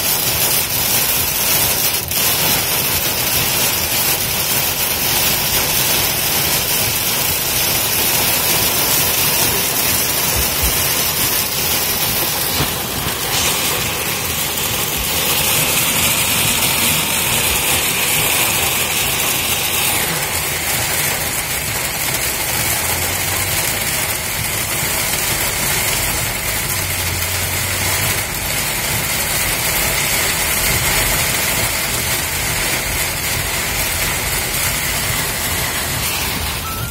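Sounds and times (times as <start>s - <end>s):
heavy rain on car roof: 0.0s - 36.9s
tyre and road noise: 0.0s - 36.9s.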